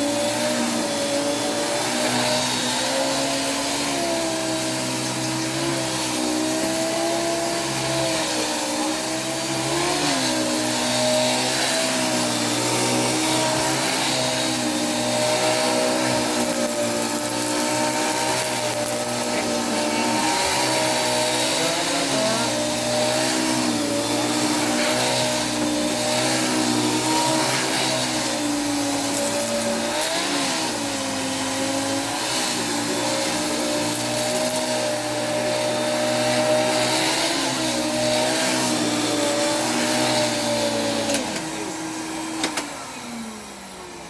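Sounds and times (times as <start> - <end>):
vacuum cleaner motor running: 0.0 - 44.0.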